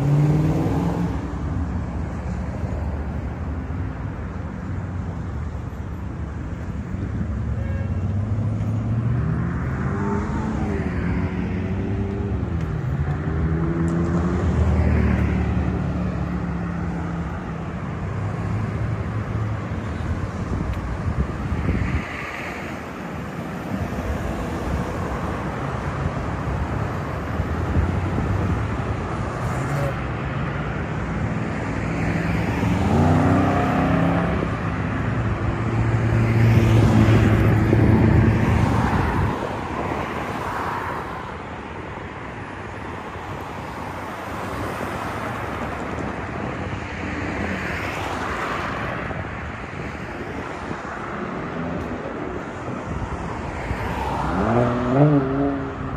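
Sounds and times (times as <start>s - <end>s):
street traffic: 0.0s - 55.9s.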